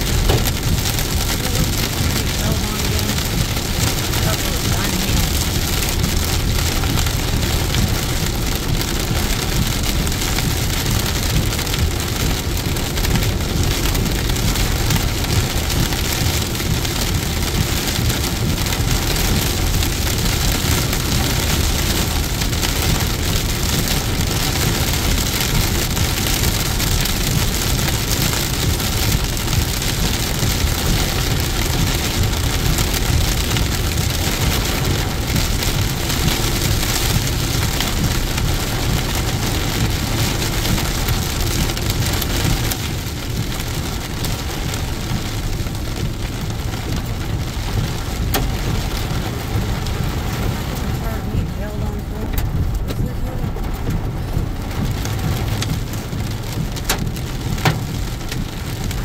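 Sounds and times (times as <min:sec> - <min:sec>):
heavy rain on car windshield: 0:00.0 - 0:59.0
tyre and road noise: 0:00.0 - 0:59.0.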